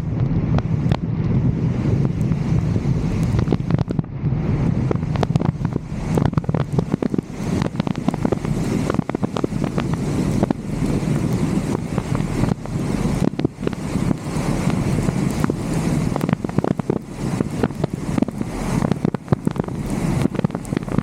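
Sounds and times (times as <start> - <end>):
low road rumble: 0.0 - 21.0
wind rushing over microphone: 0.0 - 21.0
sharp ticks and pops: 0.2 - 1.4, 3.2 - 4.1, 4.9 - 21.0.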